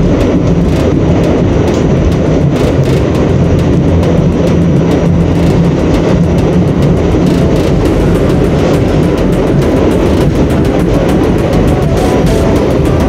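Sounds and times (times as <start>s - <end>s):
subway train rumble: 0.0s - 13.0s
wheels clicking over rail joints: 0.0s - 13.0s.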